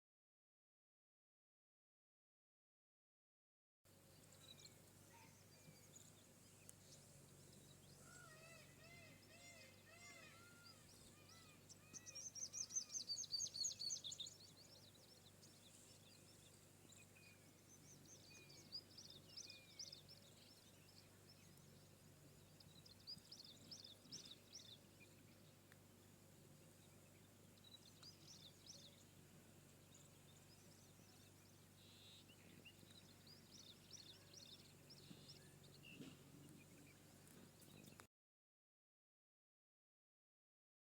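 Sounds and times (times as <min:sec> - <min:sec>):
low background hum: 0:03.9 - 0:38.1
birds singing and calling: 0:04.1 - 0:38.1.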